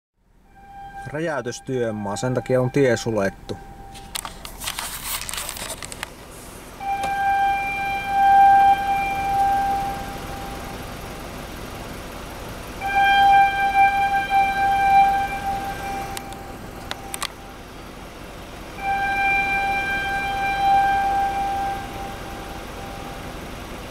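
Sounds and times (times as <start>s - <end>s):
warning horn long tones: 0.4s - 6.0s, 6.7s - 23.9s.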